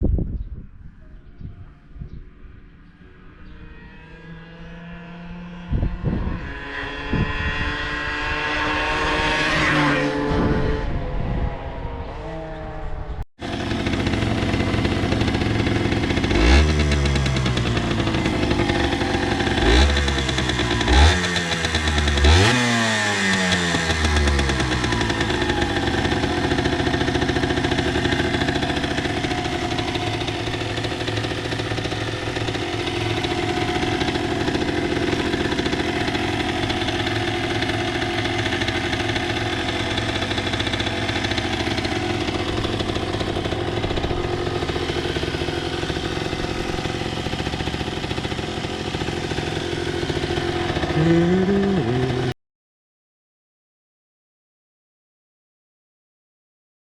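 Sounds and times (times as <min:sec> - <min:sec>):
two-stroke engine idling and revving: 0:02.4 - 0:12.8, 0:13.4 - 0:52.4.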